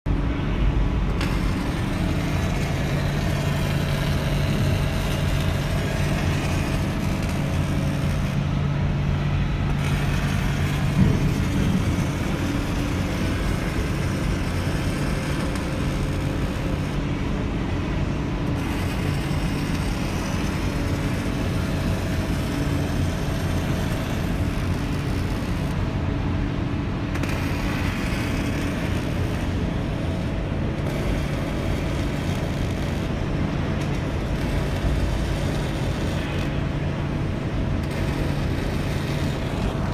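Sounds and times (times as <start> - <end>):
machinery low hum: 0.1 - 39.9.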